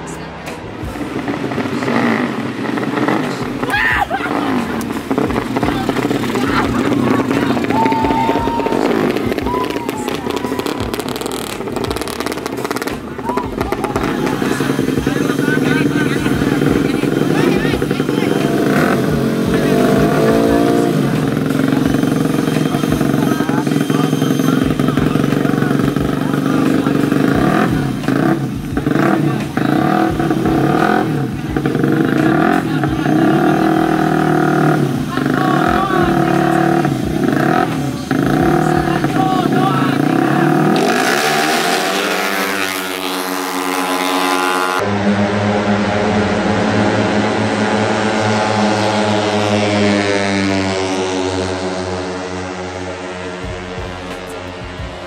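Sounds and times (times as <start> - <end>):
scooter engine revving: 0.0 - 55.0.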